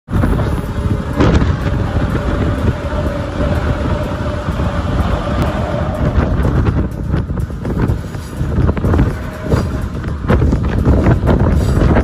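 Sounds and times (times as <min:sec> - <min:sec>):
thin steady whine: 0:00.1 - 0:12.0
train clatter: 0:00.1 - 0:12.0
train wheels rumbling on rail: 0:00.1 - 0:12.0.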